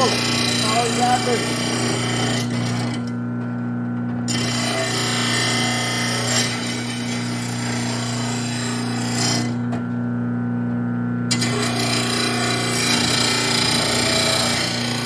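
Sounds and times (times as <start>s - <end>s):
blade grinding on grinding wheel: 0.0s - 10.0s, 11.3s - 15.0s
electric motor hum: 0.0s - 15.0s.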